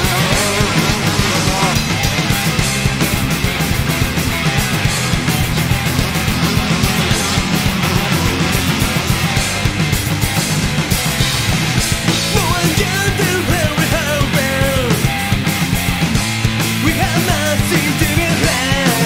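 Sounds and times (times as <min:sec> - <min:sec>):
bending lead melody: 0:00.0 - 0:19.0
loud rock music: 0:00.0 - 0:19.0.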